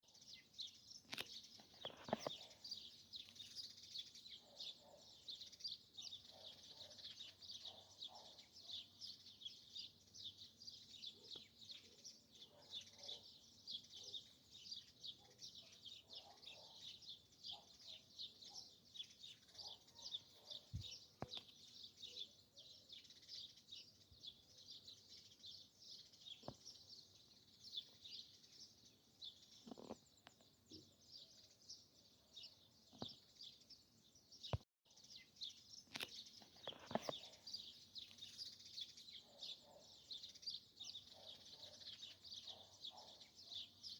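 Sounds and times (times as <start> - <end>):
forest birds chirping: 0.0 - 43.9.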